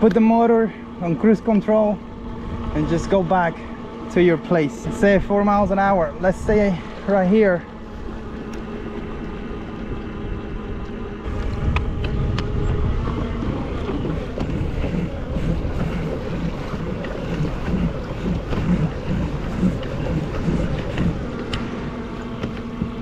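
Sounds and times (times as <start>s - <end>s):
electric motor hum: 0.0s - 23.0s
wind and water rushing: 0.0s - 23.0s
water rushing past hull: 0.8s - 23.0s.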